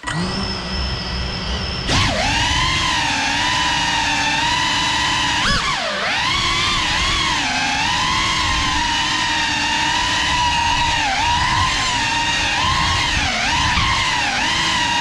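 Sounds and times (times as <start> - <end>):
drone buzzing whine: 0.0 - 15.0.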